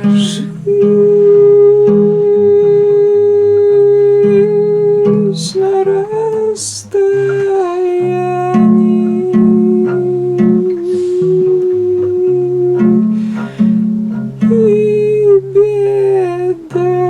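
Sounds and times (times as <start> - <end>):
long held melody note: 0.0 - 17.0
plucked guitar notes: 0.0 - 17.0.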